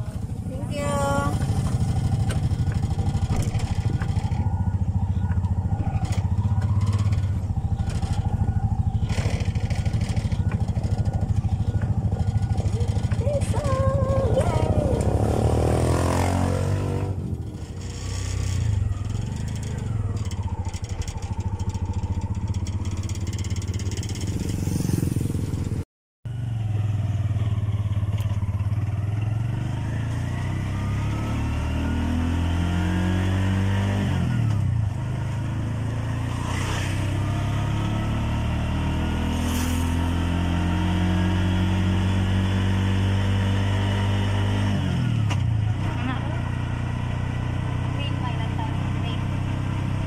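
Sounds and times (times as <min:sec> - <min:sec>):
three-wheeler engine running: 0:00.0 - 0:50.0.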